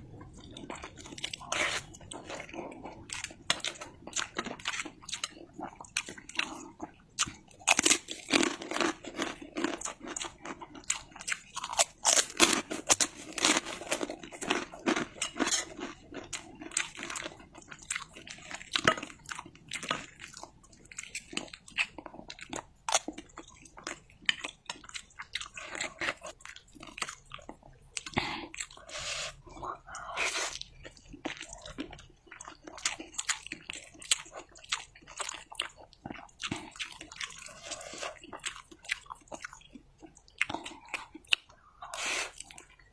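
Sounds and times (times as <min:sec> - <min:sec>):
chewing noodles: 0:00.1 - 0:42.9.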